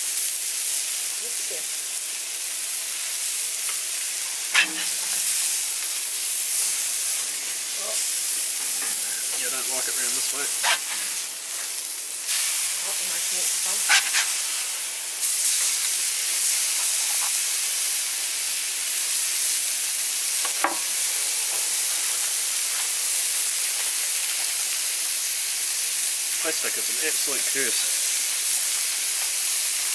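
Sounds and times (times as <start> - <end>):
burger patties sizzling on griddle: 0.0 - 29.9.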